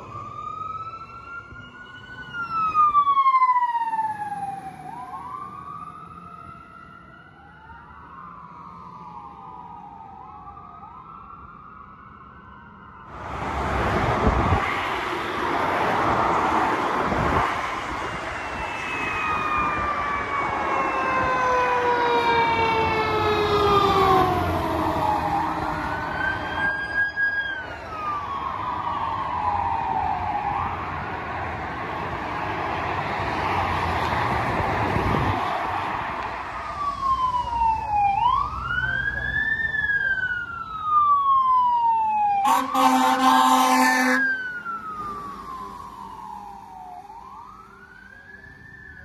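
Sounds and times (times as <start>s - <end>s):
fire engine siren wailing: 0.0s - 49.0s
freeway traffic noise: 0.0s - 49.0s
police car siren: 0.0s - 49.0s.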